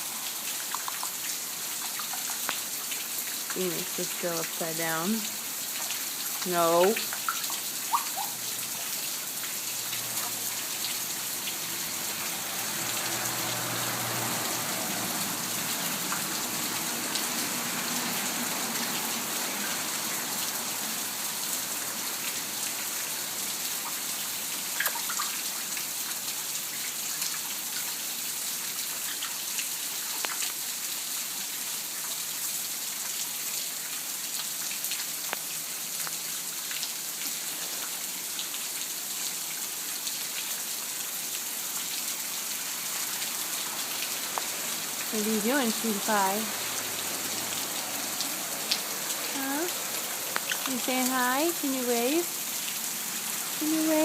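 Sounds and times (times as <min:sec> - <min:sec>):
light ticks of rain: 0:00.0 - 0:54.0
steady rain falling: 0:00.0 - 0:54.0.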